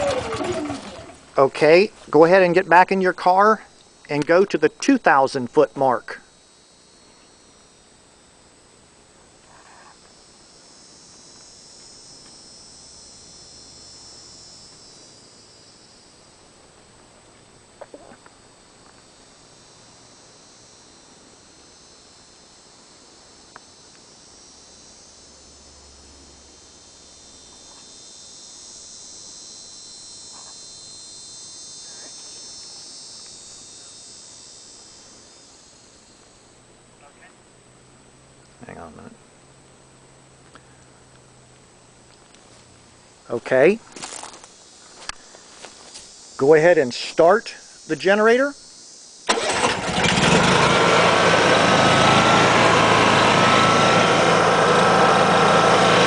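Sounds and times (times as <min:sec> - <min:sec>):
chirring insects: 0:00.0 - 0:55.8.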